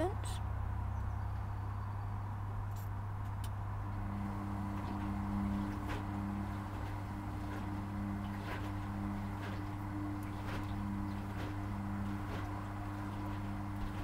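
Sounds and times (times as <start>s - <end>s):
washing machine hum: 0.0s - 14.0s
motor whine: 0.5s - 14.0s.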